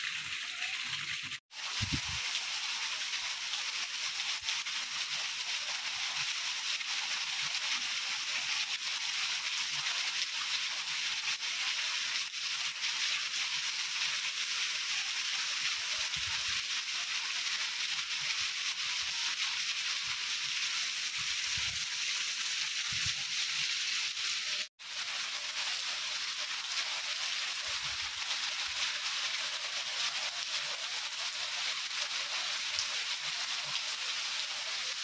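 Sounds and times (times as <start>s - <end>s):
rain falling steadily: 0.0s - 35.0s.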